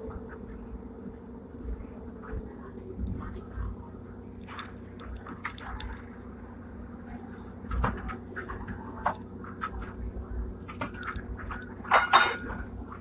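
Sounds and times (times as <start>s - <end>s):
tram electrical hum: 0.0s - 13.0s.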